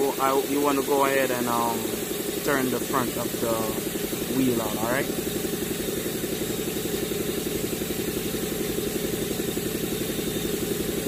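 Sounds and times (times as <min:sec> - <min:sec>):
engine drone with rapid pulse: 0:00.0 - 0:11.0.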